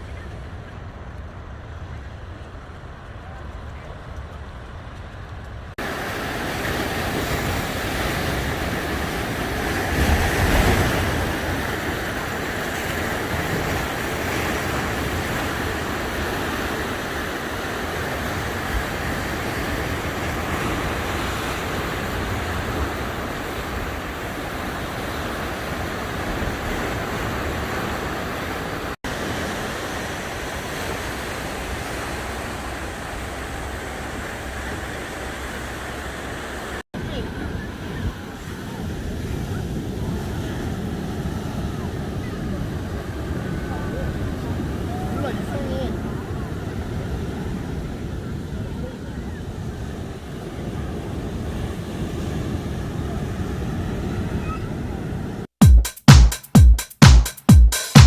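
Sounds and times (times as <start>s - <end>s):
ocean surf breaking on sand: 0.0s - 55.5s.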